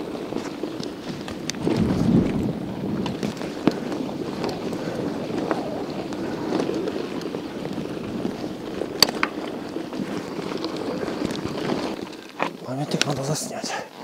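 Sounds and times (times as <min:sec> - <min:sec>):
wind buffeting microphone: 0:00.0 - 0:12.2
mountain bike rolling: 0:00.0 - 0:14.0.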